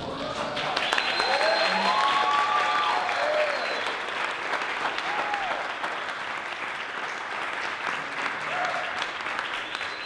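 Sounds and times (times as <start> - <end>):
crowd clapping: 0.0 - 10.0.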